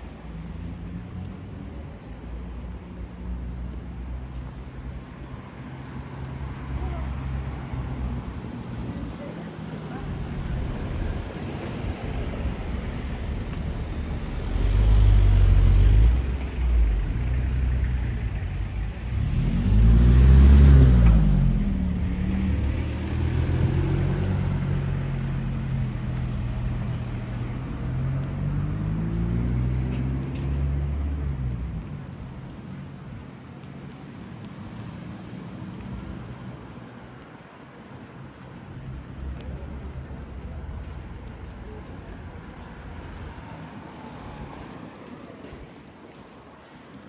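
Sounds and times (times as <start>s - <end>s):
vehicle engines passing: 0.0s - 47.0s.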